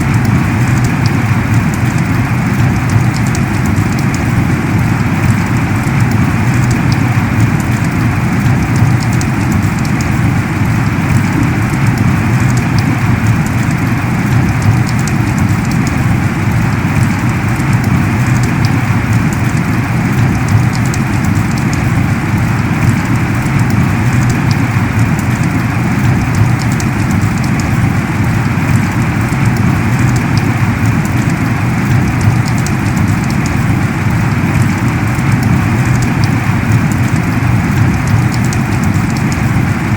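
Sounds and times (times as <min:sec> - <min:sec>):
heavy rain falling: 0:00.0 - 0:39.9
raindrop ticks: 0:00.0 - 0:39.9.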